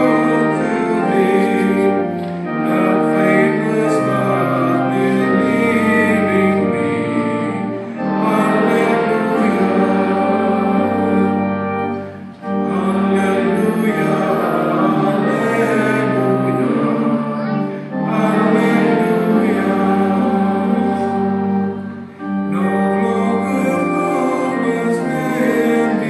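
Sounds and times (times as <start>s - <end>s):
sustained accompaniment: 0.0s - 26.0s
voices singing a hymn: 0.0s - 26.0s.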